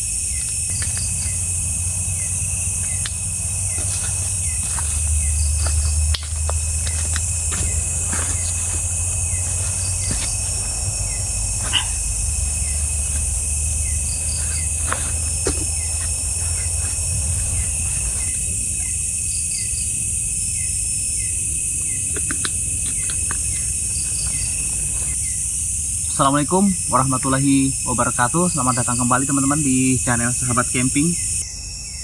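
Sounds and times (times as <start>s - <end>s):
high-pitched insect drone: 0.0s - 32.0s
insect trill: 0.0s - 32.0s.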